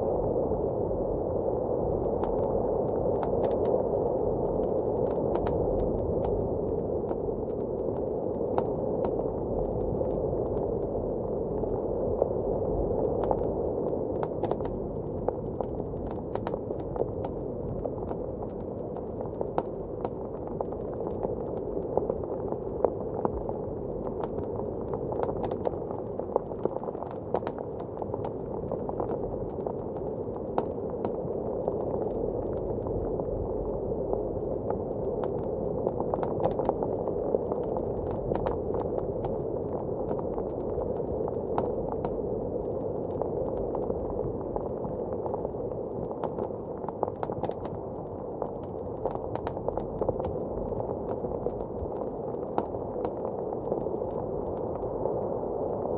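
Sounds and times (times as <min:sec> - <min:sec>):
muffled blizzard wind: 0:00.0 - 0:55.9
wood fire crackling and popping: 0:04.6 - 0:11.4, 0:13.1 - 0:32.9, 0:34.7 - 0:55.0.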